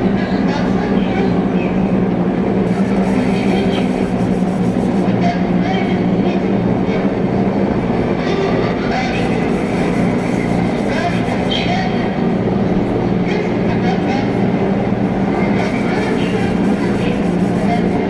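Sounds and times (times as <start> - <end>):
rumbling hissing wash: 0.0 - 18.0.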